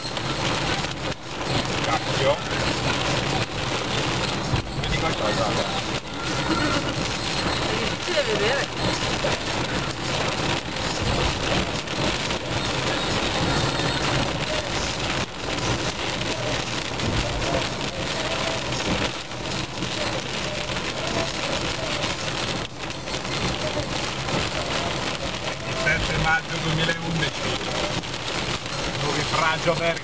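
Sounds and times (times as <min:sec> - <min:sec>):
heavy rain on car roof: 0:00.0 - 0:30.0.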